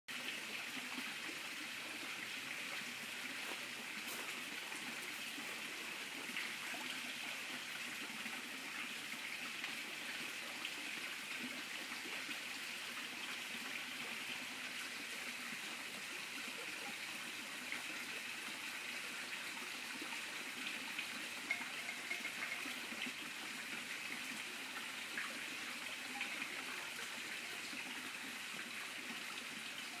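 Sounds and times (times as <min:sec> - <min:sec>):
water trickling and bubbling: 0:00.1 - 0:30.0.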